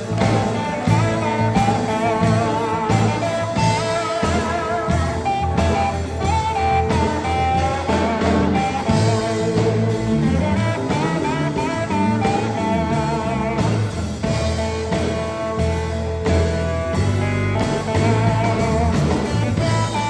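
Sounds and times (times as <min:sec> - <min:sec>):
drums: 0:00.0 - 0:20.0
electric bass: 0:00.0 - 0:20.0
steel guitar sliding melody: 0:00.0 - 0:20.0.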